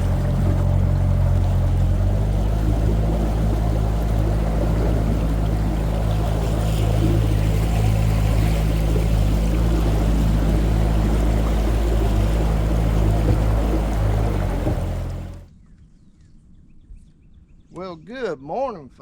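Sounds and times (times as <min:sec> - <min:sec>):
boat motor running: 0:00.0 - 0:15.5
water rushing along hull: 0:00.0 - 0:15.5.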